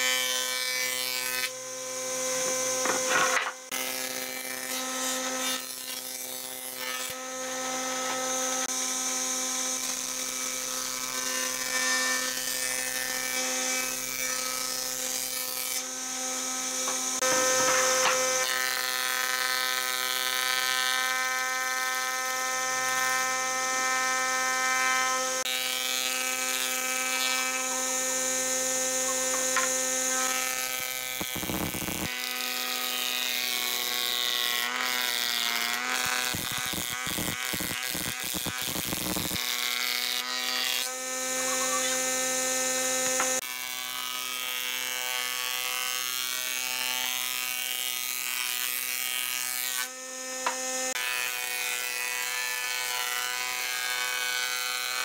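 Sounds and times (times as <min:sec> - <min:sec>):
planer whining: 0:00.0 - 0:20.7, 0:21.8 - 0:55.0
rough cutting noise: 0:00.0 - 0:20.7, 0:21.7 - 0:55.0.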